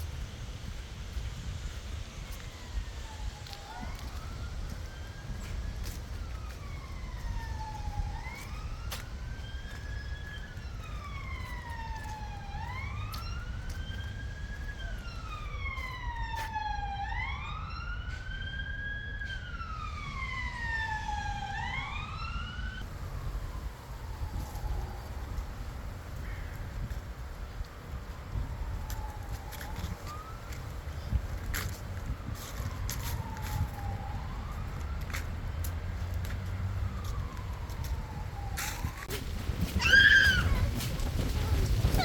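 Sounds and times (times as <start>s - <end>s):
low wind rumble: 0.0s - 42.0s
siren wailing: 1.4s - 26.2s, 26.8s - 39.1s.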